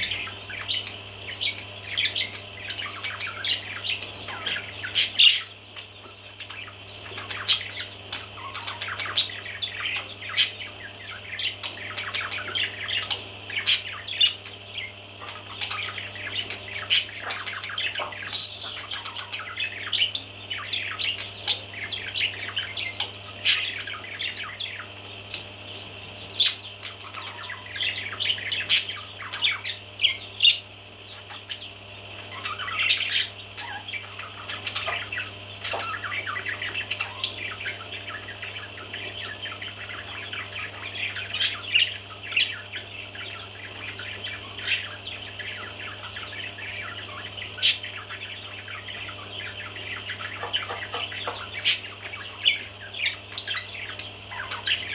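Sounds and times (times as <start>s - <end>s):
baby parrots chirping: 0.0s - 54.9s
steady low hum: 0.0s - 54.9s.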